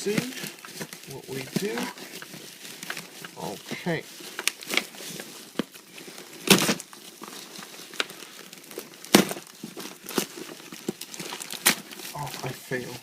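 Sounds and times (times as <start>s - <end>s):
loud packaging crackles: 0.0s - 13.0s
packaging crinkling and rustling: 0.0s - 13.0s.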